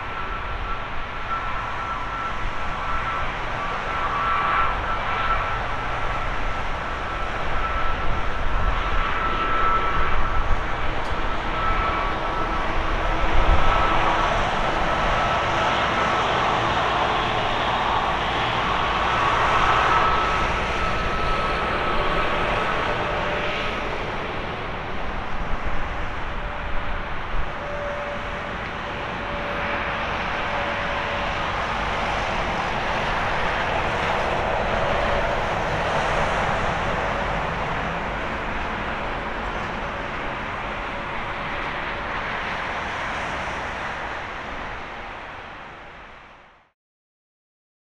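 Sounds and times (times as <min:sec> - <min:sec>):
jet engines at taxi thrust: 0:00.0 - 0:46.7.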